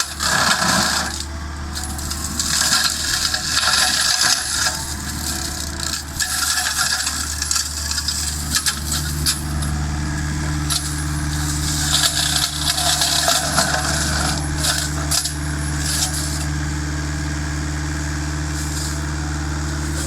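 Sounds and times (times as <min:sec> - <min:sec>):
higher machine hum: 0:00.0 - 0:20.0
low machinery drone: 0:00.0 - 0:20.0
mulcher shredding wood crackle: 0:00.0 - 0:20.0.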